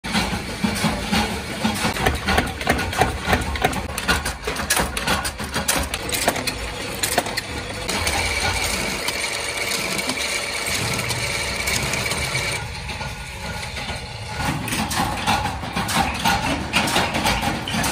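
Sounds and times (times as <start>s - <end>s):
metallic clatter of shearing press: 0.1s - 17.9s.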